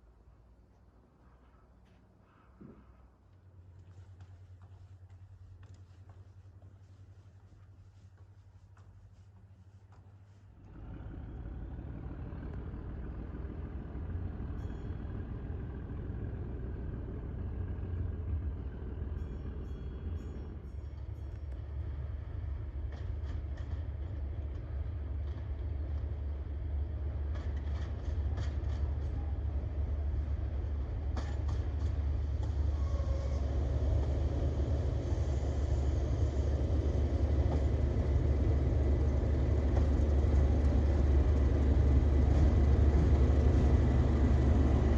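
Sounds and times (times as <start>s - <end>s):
diesel locomotive engine drone: 0.0s - 44.9s.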